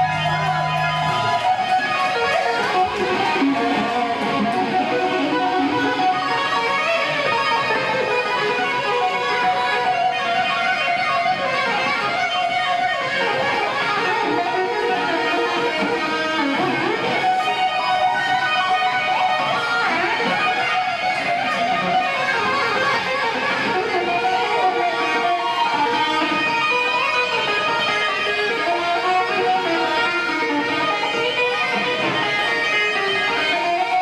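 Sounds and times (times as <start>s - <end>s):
electric guitar solo: 0.0s - 34.0s.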